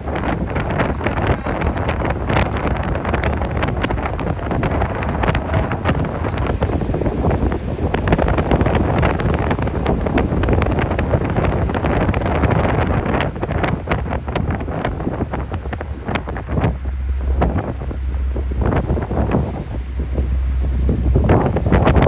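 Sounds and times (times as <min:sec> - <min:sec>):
low engine rumble: 0:00.0 - 0:22.0
wind buffeting microphone: 0:00.0 - 0:22.0.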